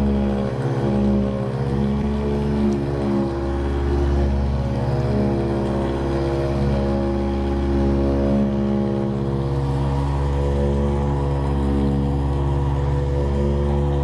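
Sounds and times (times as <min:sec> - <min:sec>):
massage tool motor hum: 0:00.0 - 0:14.0.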